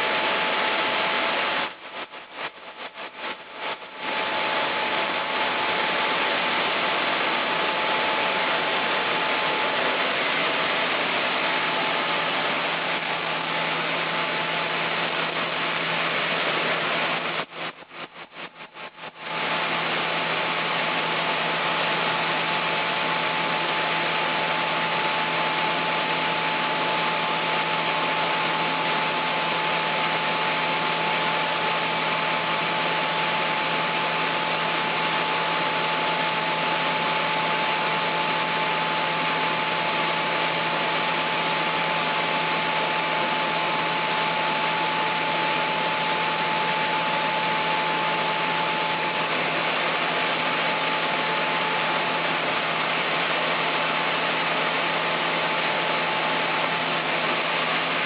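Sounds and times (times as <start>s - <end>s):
high mechanical whine: 0.0s - 58.0s
sawmill machinery running: 0.0s - 58.0s.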